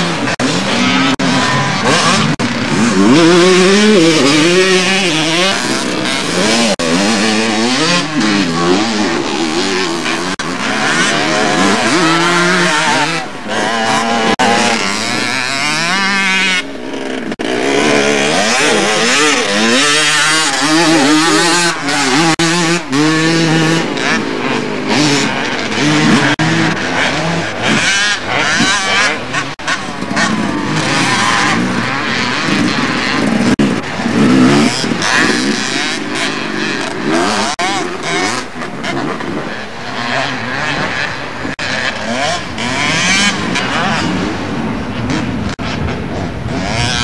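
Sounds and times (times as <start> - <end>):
motorcycle engines revving: 0.0 - 47.0.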